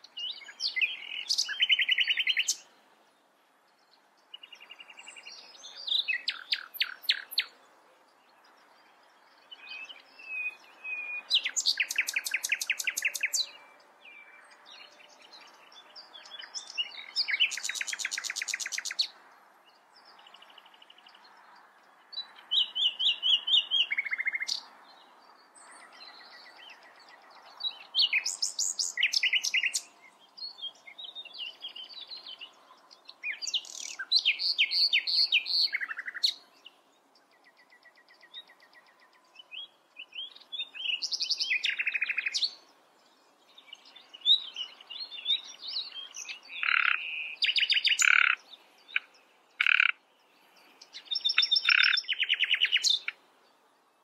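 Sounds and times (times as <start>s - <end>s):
nightingale singing: 0.0s - 2.8s, 3.7s - 53.7s.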